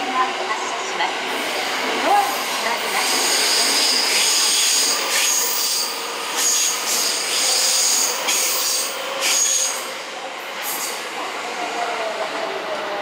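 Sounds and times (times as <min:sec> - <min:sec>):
electric train rolling past: 0:00.0 - 0:13.0.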